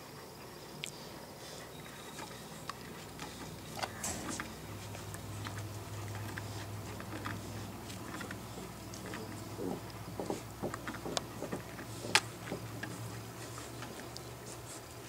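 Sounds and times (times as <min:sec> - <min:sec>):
low steady hum: 0:00.0 - 0:15.0
puppies scuffling on wood shavings: 0:01.4 - 0:15.0.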